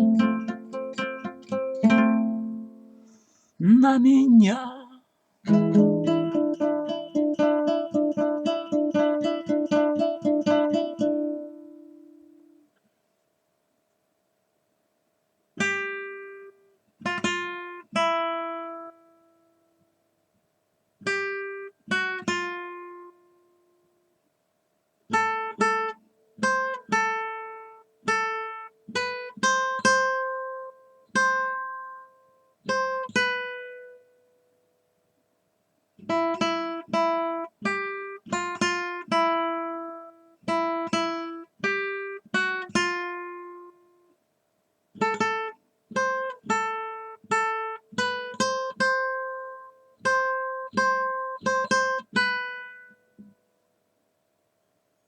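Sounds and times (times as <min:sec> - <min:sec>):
acoustic guitar chords: 0:00.0 - 0:12.8, 0:15.6 - 0:19.6, 0:21.0 - 0:23.9, 0:25.1 - 0:34.6, 0:36.0 - 0:44.2, 0:44.9 - 0:53.4.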